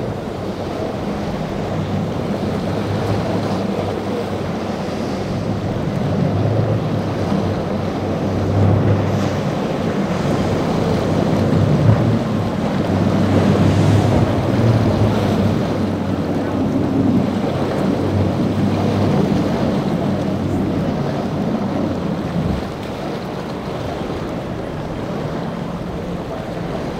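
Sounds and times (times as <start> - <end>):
outboard engines droning: 0.0 - 26.9
wind buffeting microphone: 0.0 - 26.9.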